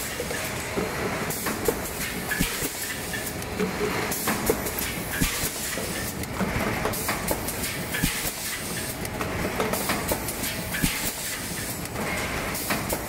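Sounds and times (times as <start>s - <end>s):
machine clacks and knocks: 0.0s - 13.0s.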